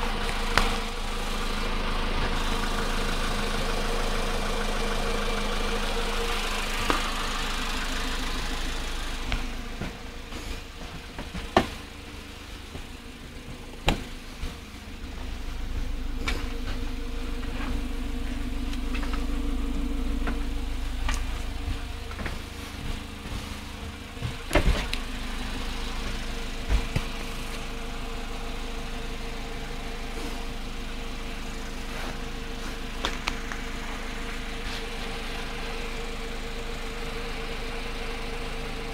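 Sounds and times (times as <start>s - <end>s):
car engine idling: 0.0s - 38.9s
engine knocking: 0.0s - 38.9s.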